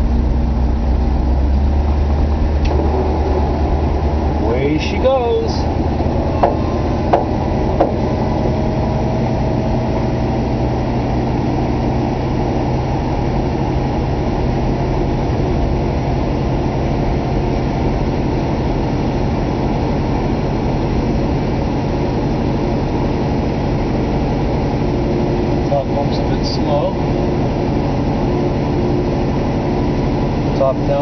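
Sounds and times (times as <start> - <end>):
car engine at raised idle: 0.0 - 31.0
hydraulic pump running: 0.0 - 31.0.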